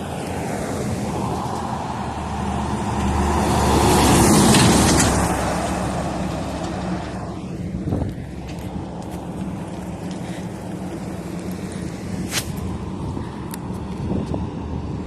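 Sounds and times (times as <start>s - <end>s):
heavy truck driving past: 0.0s - 13.4s.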